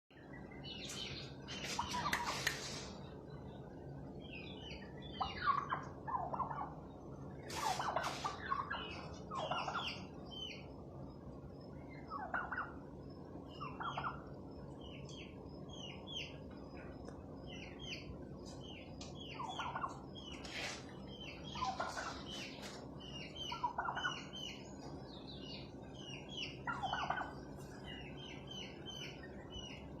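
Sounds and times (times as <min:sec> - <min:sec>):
turkeys calling: 0:00.4 - 0:03.6, 0:04.2 - 0:10.8, 0:11.8 - 0:30.0.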